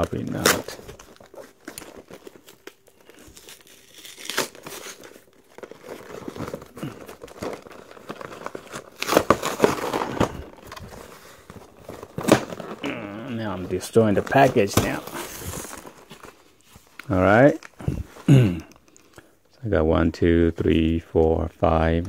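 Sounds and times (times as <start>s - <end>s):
cardboard packaging crinkling and tearing: 0.0s - 19.2s.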